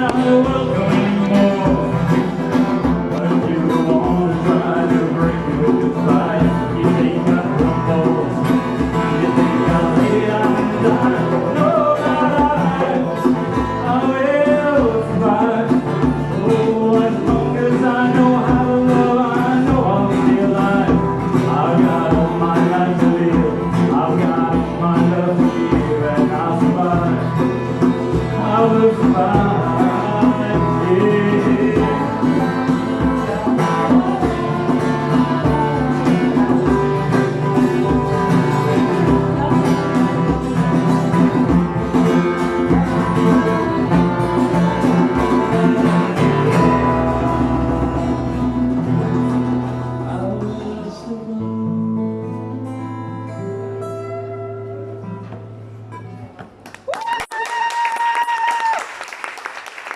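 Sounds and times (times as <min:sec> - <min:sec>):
live band playing instrumental: 0:00.0 - 0:50.1.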